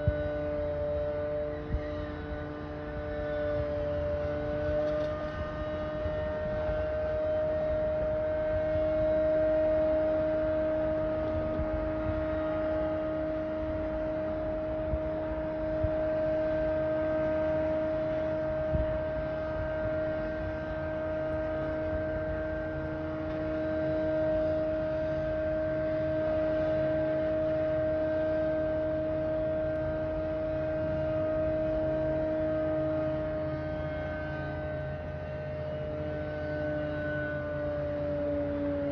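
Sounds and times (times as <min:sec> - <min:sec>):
loud constant drone: 0:00.0 - 0:38.9
lower tone: 0:00.0 - 0:38.9.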